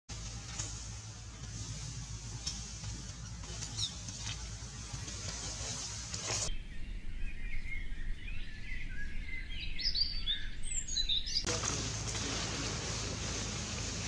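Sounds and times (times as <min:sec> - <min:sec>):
outdoor background noise: 0:00.1 - 0:14.0
birds chirping and twittering: 0:00.2 - 0:14.0.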